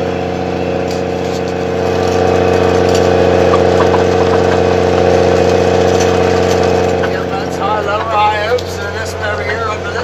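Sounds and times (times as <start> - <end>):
snowcat engine running: 0.0 - 10.0.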